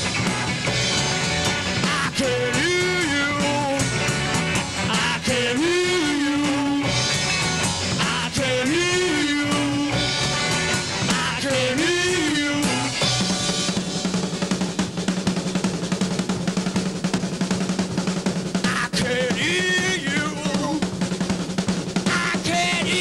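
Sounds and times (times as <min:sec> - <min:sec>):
fast drum roll: 0:00.0 - 0:23.0
punk rock band playing: 0:00.0 - 0:23.0.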